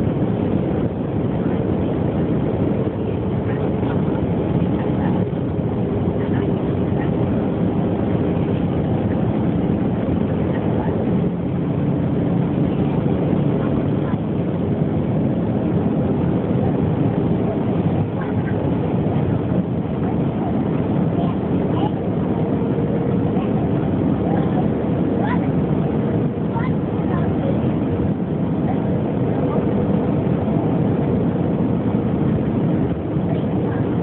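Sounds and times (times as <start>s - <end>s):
airliner cabin engine rush: 0.0s - 34.0s.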